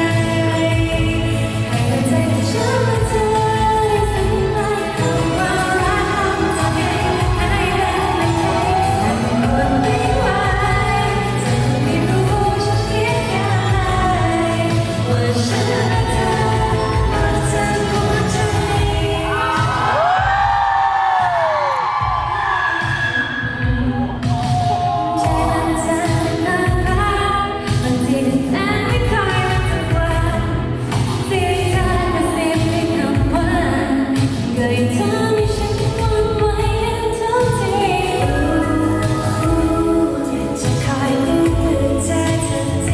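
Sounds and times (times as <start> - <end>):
live pop song over pa system: 0.0 - 42.9
loud backing track: 0.0 - 42.9.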